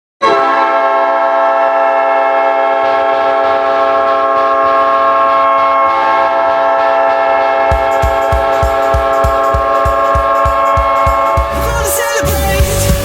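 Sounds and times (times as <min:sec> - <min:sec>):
arena goal horn: 0:00.2 - 0:12.0.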